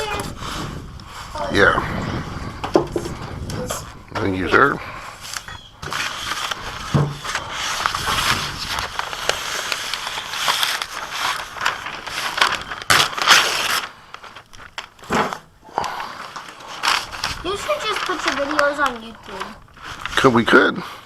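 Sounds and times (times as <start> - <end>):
paper crinkling and rustling: 0.0 - 1.4, 3.0 - 20.7.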